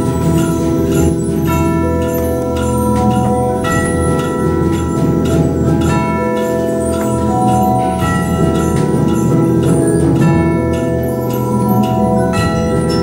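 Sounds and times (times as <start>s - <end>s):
mallet percussion ringing chords: 0.0s - 13.0s.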